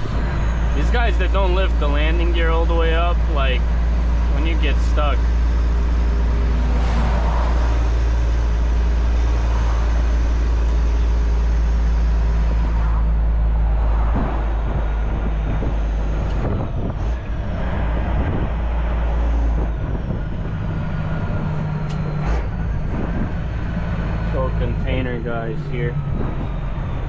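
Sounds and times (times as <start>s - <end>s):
diesel truck engine rumble: 0.0s - 27.0s.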